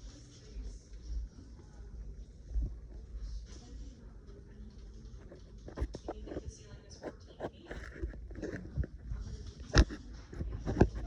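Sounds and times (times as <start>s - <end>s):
faint shop sounds: 0.0s - 11.0s.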